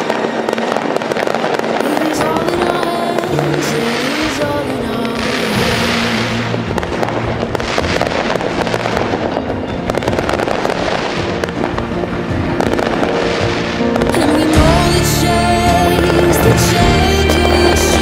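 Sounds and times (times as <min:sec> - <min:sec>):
fireworks crackling and popping: 0:00.0 - 0:18.0
music playing: 0:00.0 - 0:18.0.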